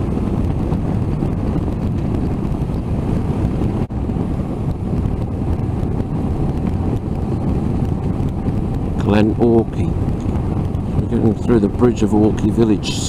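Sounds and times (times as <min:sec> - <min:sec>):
motorcycle riding noise: 0:00.0 - 0:13.0
wind rushing over microphone: 0:00.0 - 0:13.0.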